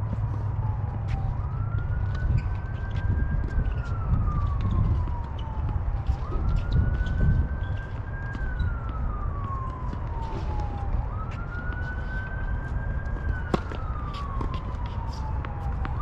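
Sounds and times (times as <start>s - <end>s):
siren wailing: 0.1s - 16.0s.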